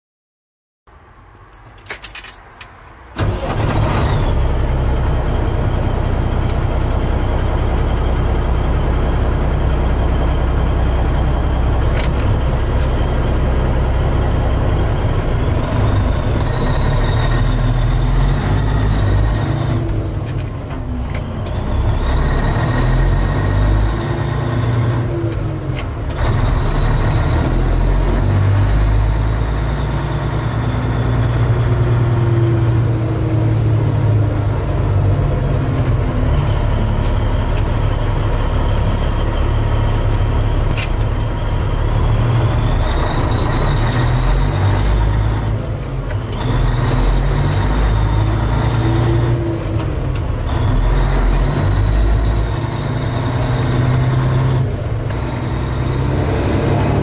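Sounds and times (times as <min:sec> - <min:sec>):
diesel truck engine running: 0:03.1 - 0:57.0.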